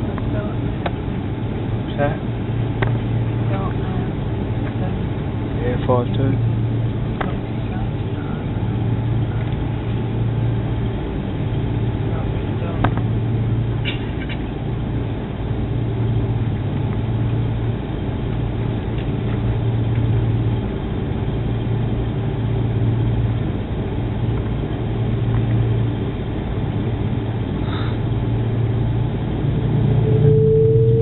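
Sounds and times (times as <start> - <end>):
airliner engines in cabin: 0.0 - 31.0.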